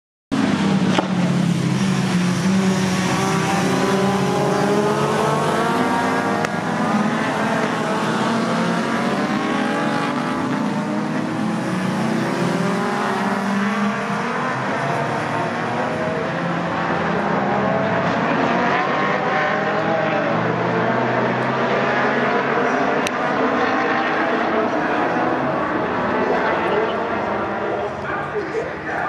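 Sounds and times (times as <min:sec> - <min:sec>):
race car engines: 0:00.3 - 0:29.0.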